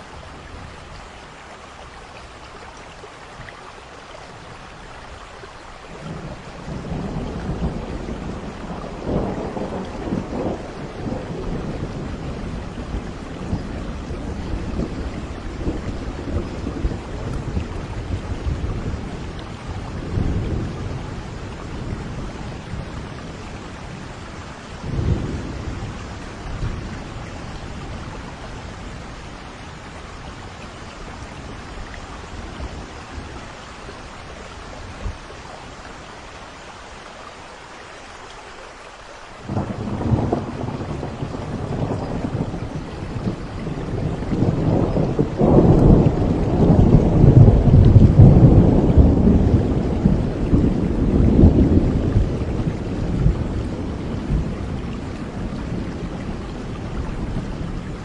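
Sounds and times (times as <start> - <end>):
steady rain: 0.0 - 58.0
thunder rumbling: 6.0 - 35.5, 39.4 - 58.0.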